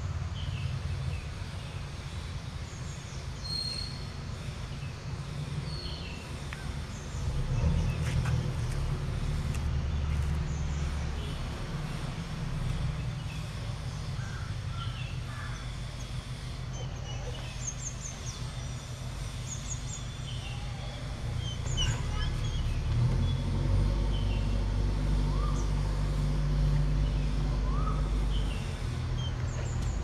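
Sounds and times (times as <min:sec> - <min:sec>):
low motor rumble: 0:00.0 - 0:30.0
small birds chirping: 0:00.1 - 0:30.0.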